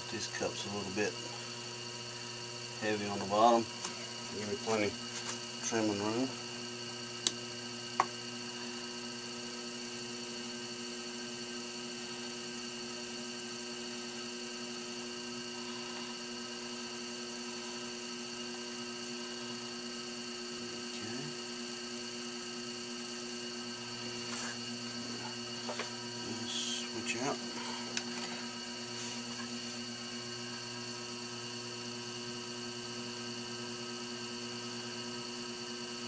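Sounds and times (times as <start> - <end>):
potter's wheel motor hum: 0.0 - 36.0.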